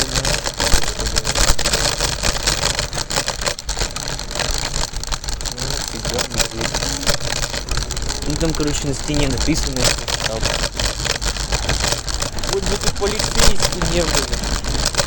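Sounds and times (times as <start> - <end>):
rattling knocks: 0.0 - 15.0
scooter rolling over pavement: 0.0 - 15.0.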